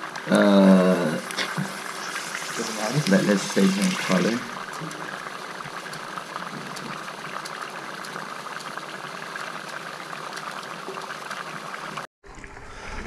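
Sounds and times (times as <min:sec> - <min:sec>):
liquid nitrogen boiling hiss: 0:00.0 - 0:12.0.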